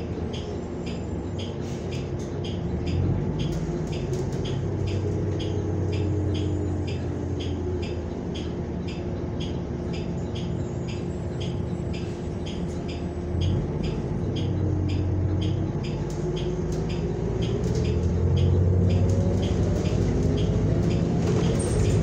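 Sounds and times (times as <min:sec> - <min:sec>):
bus engine accelerating: 0:00.0 - 0:22.0
light ticking: 0:00.0 - 0:22.0.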